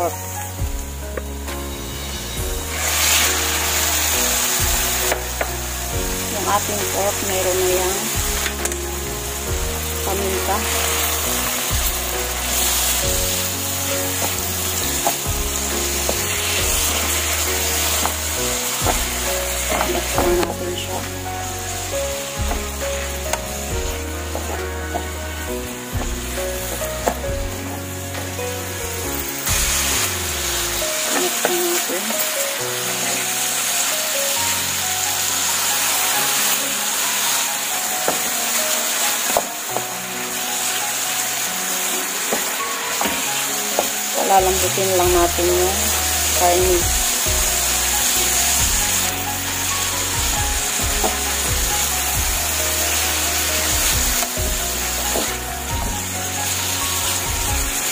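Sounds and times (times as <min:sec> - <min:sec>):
background music: 0:00.0 - 0:57.9
meat sizzling in a frying pan: 0:00.0 - 0:57.9
wooden spatula scraping a pan: 0:00.7 - 0:33.9, 0:38.0 - 0:57.9.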